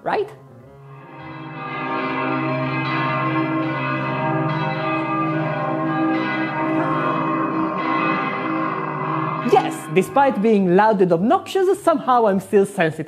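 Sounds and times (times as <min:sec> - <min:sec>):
church bells ringing: 0:00.6 - 0:13.0.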